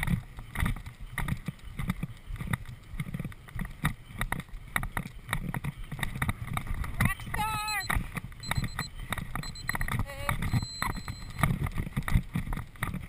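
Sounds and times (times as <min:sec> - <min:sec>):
horse hooves galloping on grass: 0:00.0 - 0:13.0.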